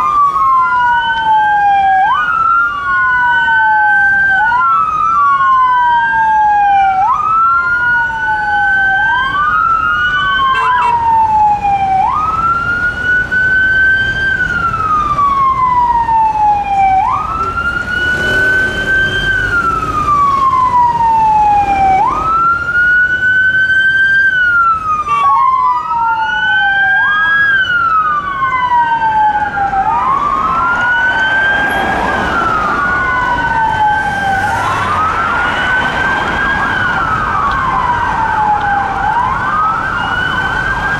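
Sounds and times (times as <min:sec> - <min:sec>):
police siren wailing: 0:00.0 - 0:40.9
traffic noise: 0:00.0 - 0:40.9.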